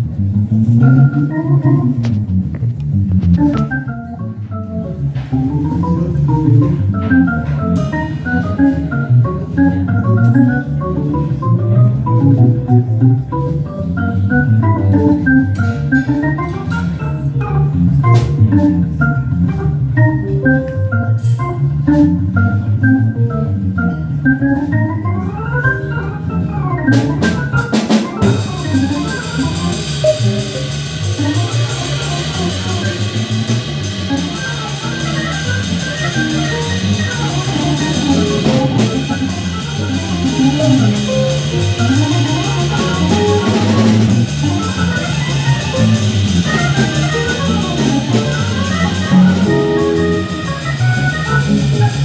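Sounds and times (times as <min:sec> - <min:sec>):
bass line: 0:00.0 - 0:52.0
drum kit: 0:00.0 - 0:52.0
organ playing fast jazz: 0:00.0 - 0:52.0.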